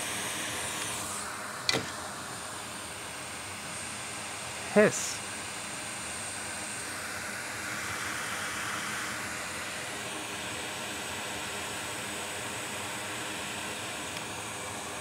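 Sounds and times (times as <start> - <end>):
hot air station hissing: 0.0 - 15.0.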